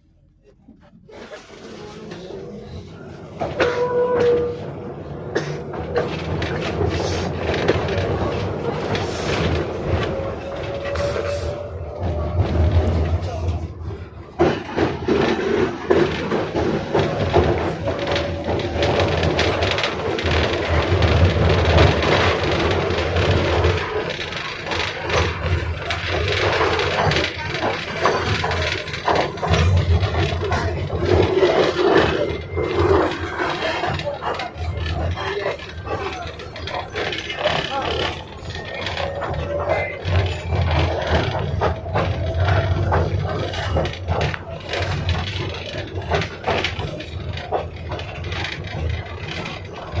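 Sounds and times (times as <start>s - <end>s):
tram rumbling on track: 0.0s - 50.0s
wheels clicking over rail joints: 1.1s - 50.0s.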